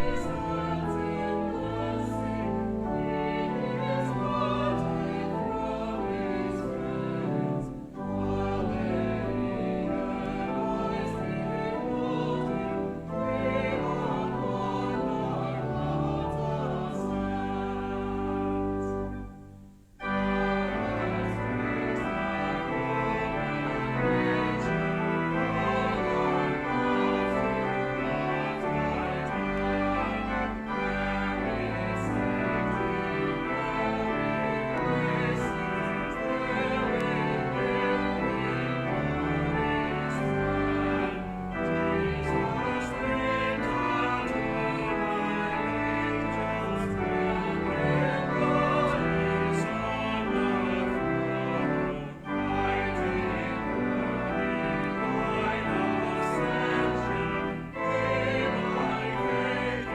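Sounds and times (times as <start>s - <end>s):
voices singing: 0.0s - 19.3s, 20.0s - 59.9s
church organ playing hymn: 0.0s - 59.9s.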